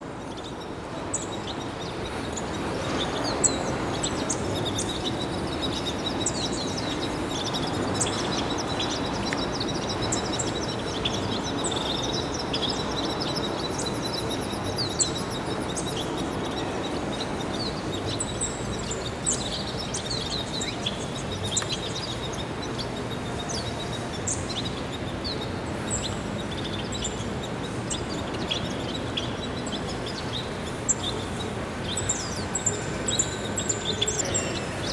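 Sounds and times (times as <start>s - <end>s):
small birds chirping: 0.0s - 34.9s
steady background noise: 0.0s - 34.9s.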